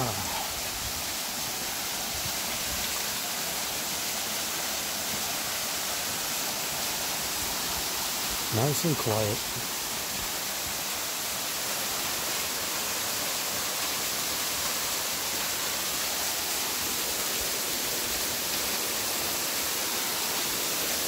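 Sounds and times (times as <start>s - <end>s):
waterfall splashing onto rocks: 0.0s - 21.0s.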